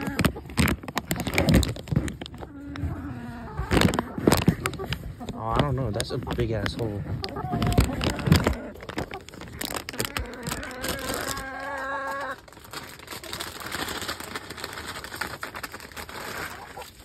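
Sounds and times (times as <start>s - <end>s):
hens calling: 0.0s - 13.5s, 16.2s - 17.0s
hens scratching and pecking: 0.0s - 17.0s
scraps rustling onto wood chips: 0.0s - 17.0s.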